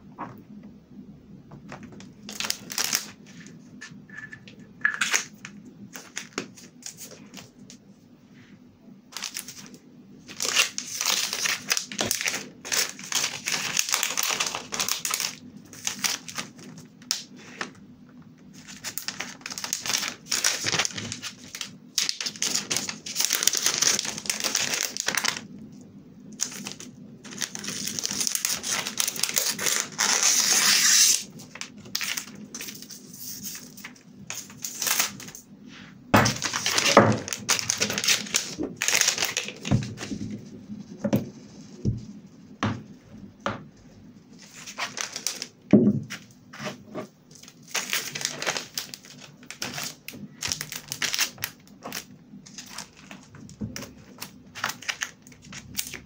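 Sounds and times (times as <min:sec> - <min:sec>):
cellophane crinkling: 0:01.6 - 0:07.6, 0:09.1 - 0:17.8, 0:18.4 - 0:25.6, 0:26.2 - 0:35.4, 0:36.2 - 0:42.2, 0:44.3 - 0:56.0.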